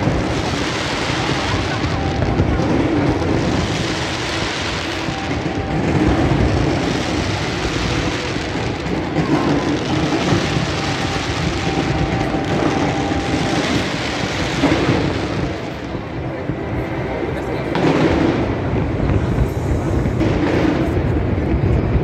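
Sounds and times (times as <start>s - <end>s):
fireworks crackle and rumble: 0.0s - 22.0s.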